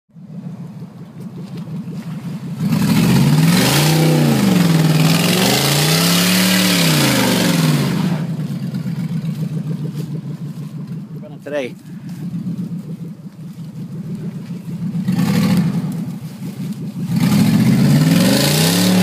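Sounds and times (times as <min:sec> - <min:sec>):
truck engine revving: 0:00.1 - 0:19.0.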